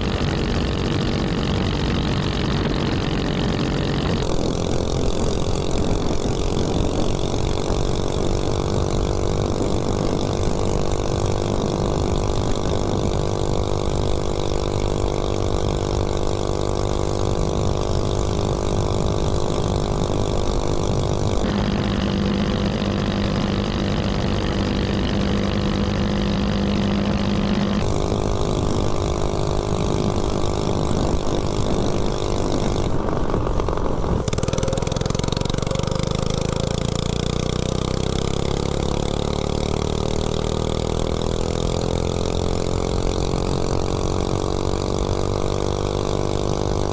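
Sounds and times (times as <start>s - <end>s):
small engine running hard: 0.0s - 46.9s.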